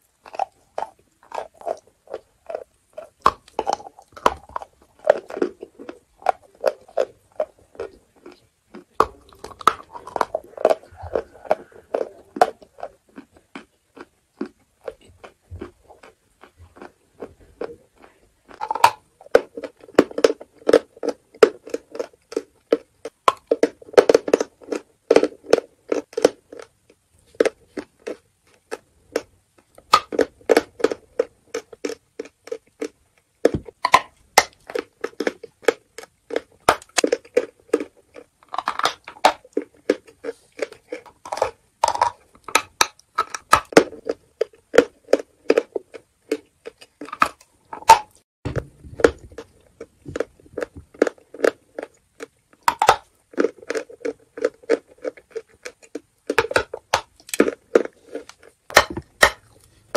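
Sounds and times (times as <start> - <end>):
chalk crunching while chewed: 0.0 - 48.2, 48.9 - 59.9.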